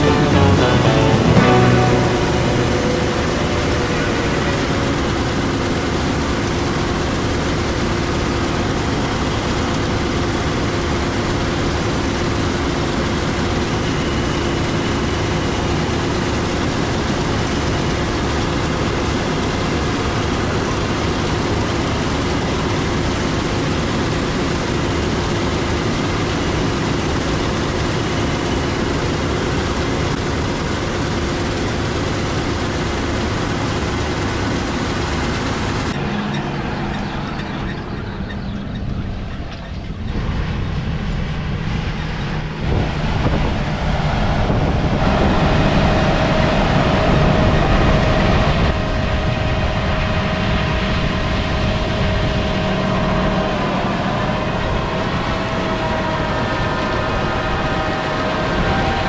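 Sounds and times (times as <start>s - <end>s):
heavy farm machinery engine drone: 0.0s - 59.0s.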